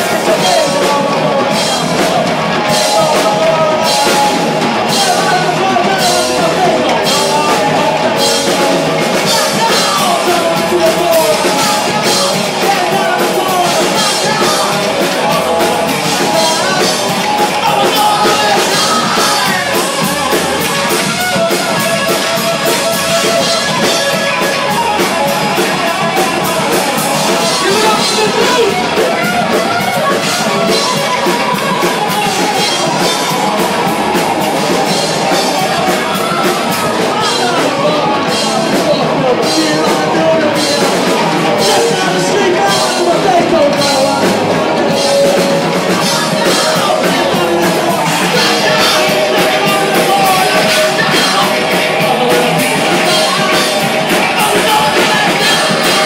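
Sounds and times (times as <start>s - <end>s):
drum kit: 0.0s - 56.0s
electric guitar: 0.0s - 56.0s
person singing into microphone: 0.0s - 56.0s.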